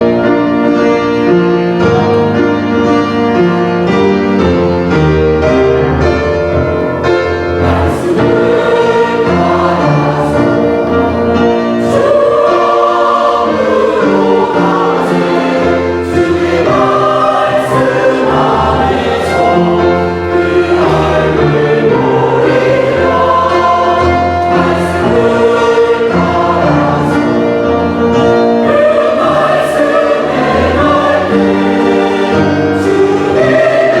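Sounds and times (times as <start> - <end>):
church choir singing: 0.0 - 34.0
instrumental accompaniment: 0.0 - 34.0.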